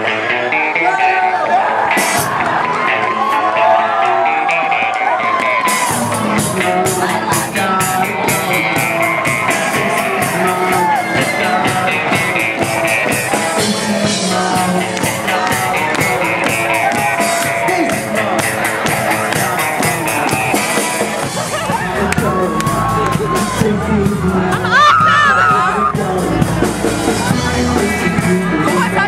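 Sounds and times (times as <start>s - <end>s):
live rock band playing: 0.0s - 29.0s
drums keeping steady beat: 1.9s - 3.4s, 4.2s - 29.0s.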